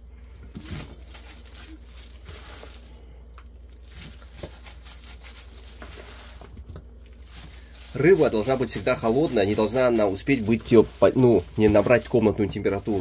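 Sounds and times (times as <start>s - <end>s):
rustling and scraping of fish: 0.2s - 13.0s.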